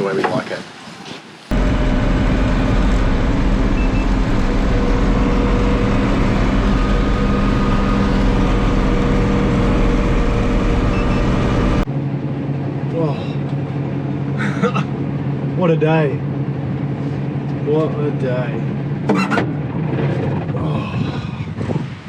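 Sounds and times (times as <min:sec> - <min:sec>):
truck engine droning: 0:01.5 - 0:20.9.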